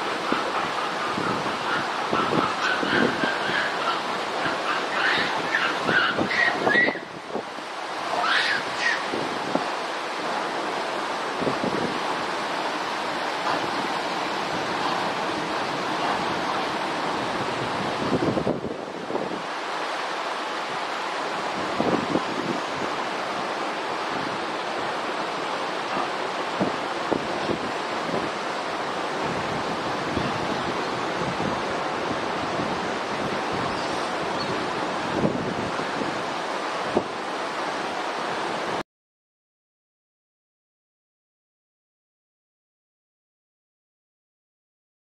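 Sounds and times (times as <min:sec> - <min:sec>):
steady outdoor rushing noise: 0:00.0 - 0:38.8.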